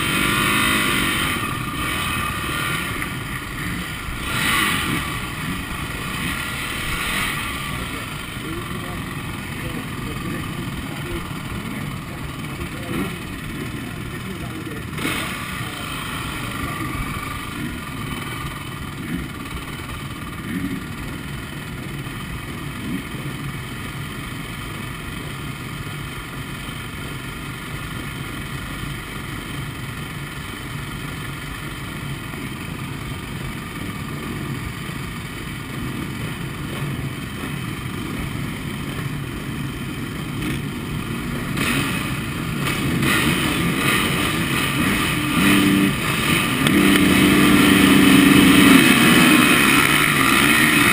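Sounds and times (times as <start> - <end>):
motorbike engines idling and revving: 0.0 - 50.9.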